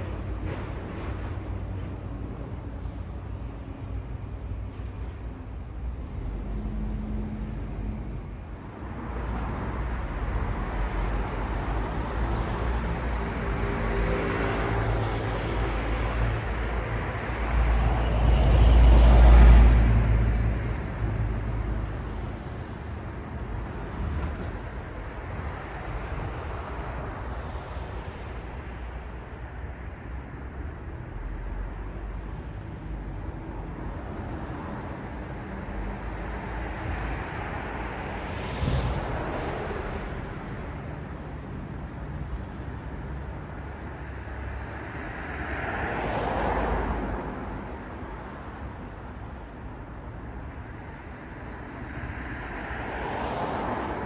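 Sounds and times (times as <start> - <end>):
rumble of traffic: 0.0 - 54.0.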